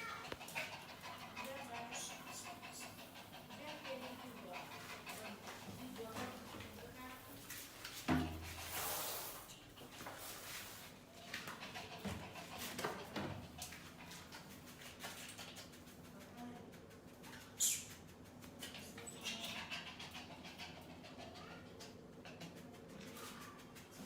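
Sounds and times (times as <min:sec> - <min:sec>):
faint dog sounds: 0:00.0 - 0:07.6, 0:09.5 - 0:24.0.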